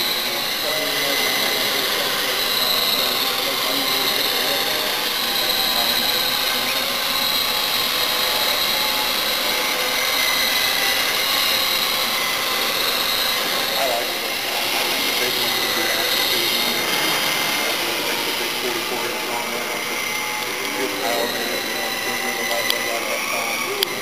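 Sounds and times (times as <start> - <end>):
toy helicopter rotors whining: 0.0 - 24.0.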